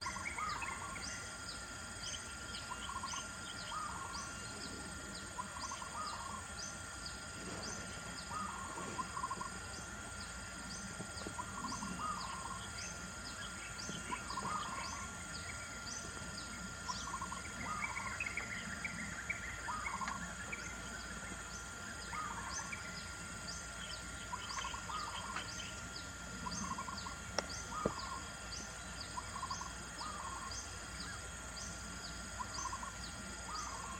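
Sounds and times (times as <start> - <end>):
steady high-pitched drone: 0.0 - 33.9.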